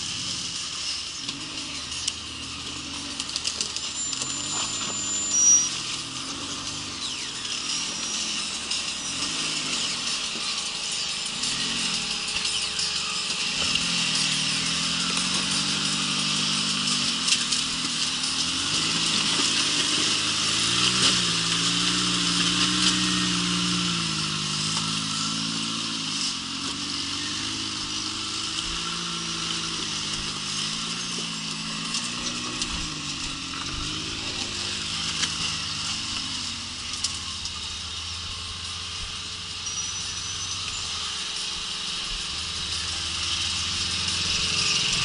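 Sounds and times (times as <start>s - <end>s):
engine revving: 0.0s - 45.0s.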